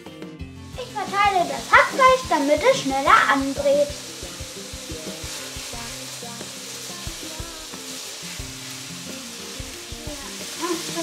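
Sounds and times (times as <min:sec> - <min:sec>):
meat sizzling in a frying pan: 0:00.5 - 0:11.0.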